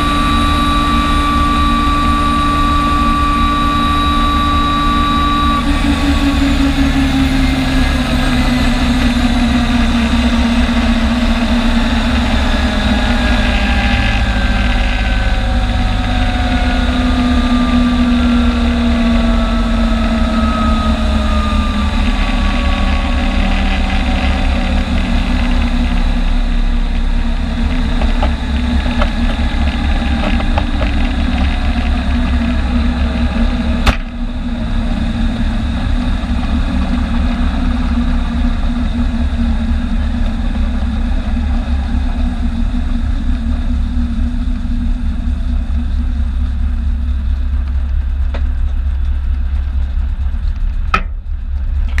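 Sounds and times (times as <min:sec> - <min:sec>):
helicopter engine and rotor drone: 0:00.0 - 0:52.0.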